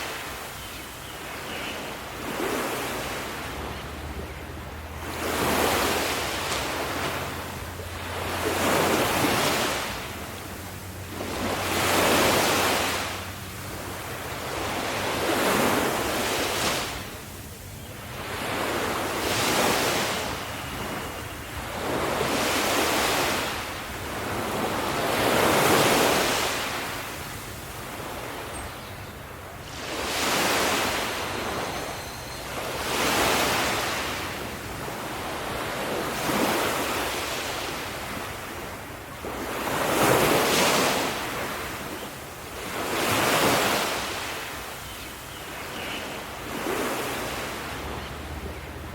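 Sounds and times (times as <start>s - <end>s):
ocean waves breaking on shore: 0.0s - 48.9s.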